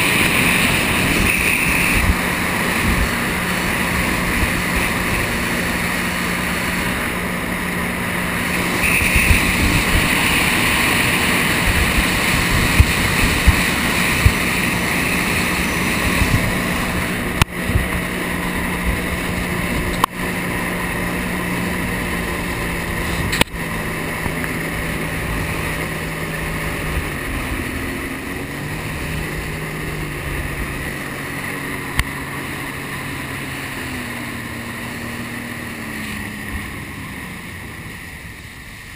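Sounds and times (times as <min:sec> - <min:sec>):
jet ski engine running: 0:00.0 - 0:38.9
wind and water spray rushing: 0:00.0 - 0:38.9.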